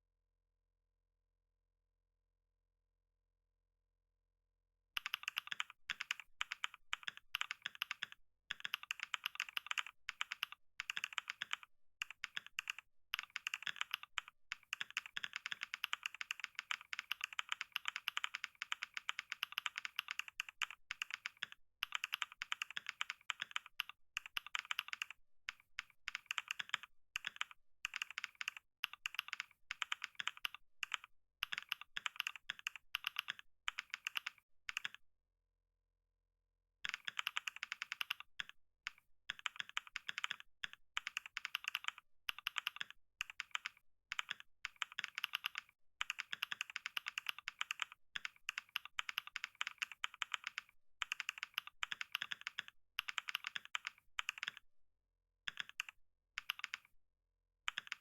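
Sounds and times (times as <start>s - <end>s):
typing on computer keyboard: 5.0s - 35.0s, 36.8s - 54.6s, 55.5s - 56.9s, 57.7s - 58.0s.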